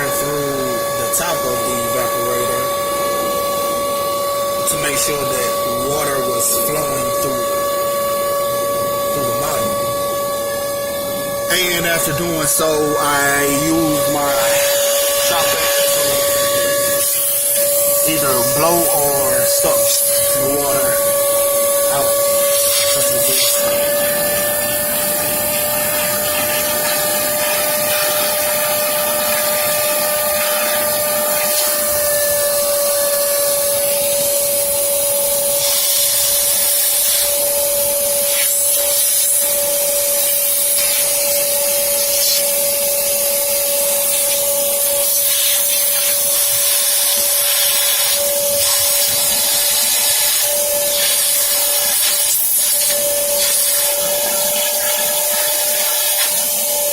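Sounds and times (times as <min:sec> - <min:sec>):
shop vacuum whining: 0:00.0 - 0:56.9.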